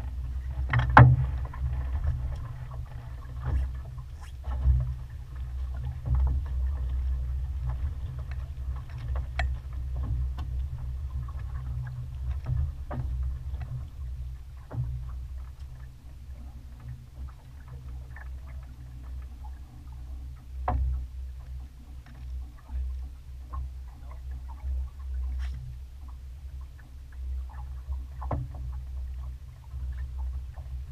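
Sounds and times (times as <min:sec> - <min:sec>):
wind rumbling on microphone: 0:00.0 - 0:21.6, 0:22.3 - 0:30.9.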